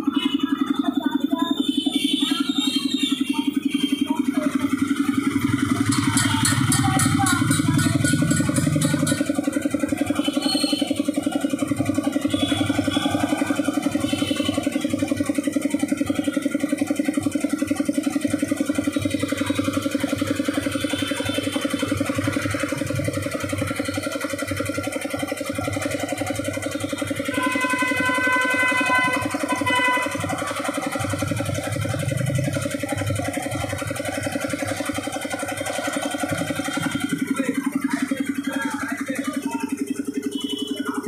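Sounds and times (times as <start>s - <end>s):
air compressor pump running: 0.0s - 41.0s.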